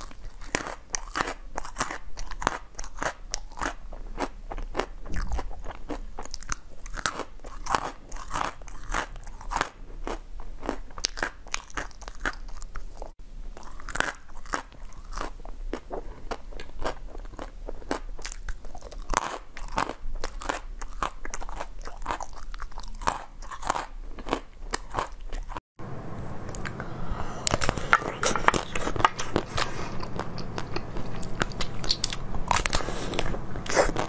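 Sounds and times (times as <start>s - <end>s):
crunching and chewing candies: 0.0s - 25.6s, 27.4s - 34.0s.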